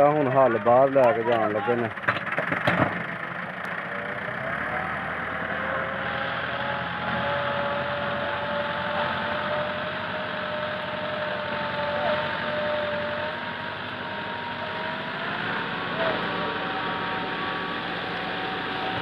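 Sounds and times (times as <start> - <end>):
tractor diesel engine running hard: 0.0 - 19.0.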